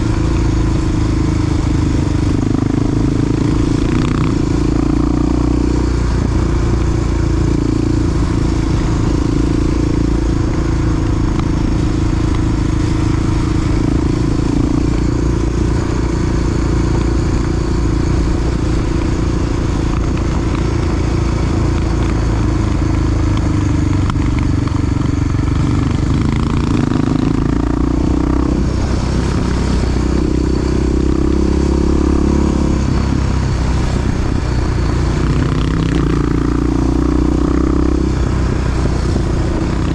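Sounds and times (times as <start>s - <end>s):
dirt bike engine running: 0.0s - 39.9s
road and wind noise: 0.0s - 39.9s.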